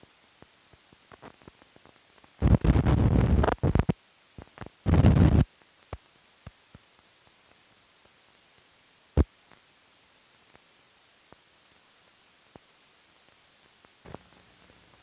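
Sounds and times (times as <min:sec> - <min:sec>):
loud crackling noise bursts: 0:00.0 - 0:15.0.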